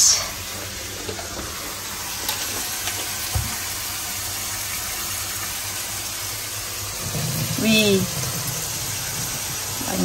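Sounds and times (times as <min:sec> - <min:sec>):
water streaming from squeezed food: 0:00.1 - 0:10.0.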